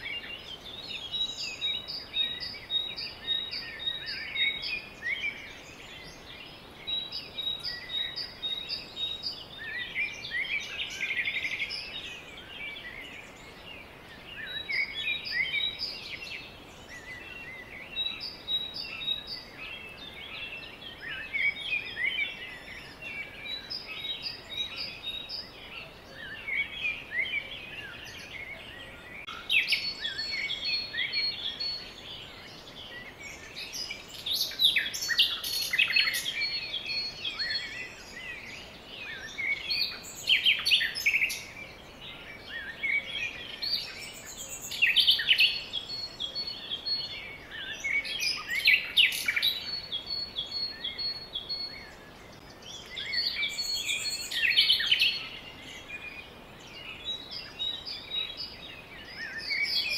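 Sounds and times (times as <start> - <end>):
faint steady hiss: 0.0 - 59.9
songbirds chirping and singing: 0.0 - 59.9.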